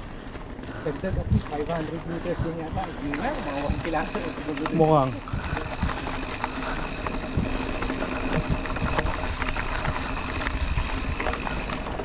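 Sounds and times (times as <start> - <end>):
bike tyres rolling: 0.0 - 12.0
bike rattling and knocks: 1.0 - 12.0.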